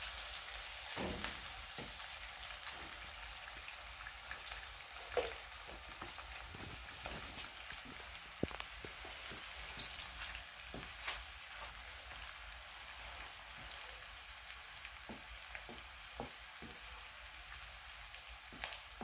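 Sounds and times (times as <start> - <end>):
onions sizzling in a pan: 0.0 - 19.0.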